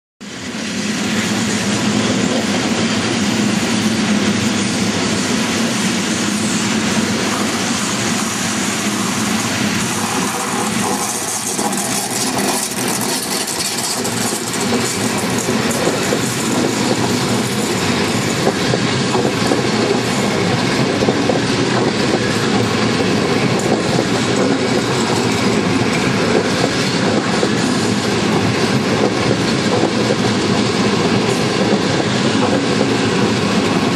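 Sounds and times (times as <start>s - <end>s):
train running on track: 0.2s - 33.9s.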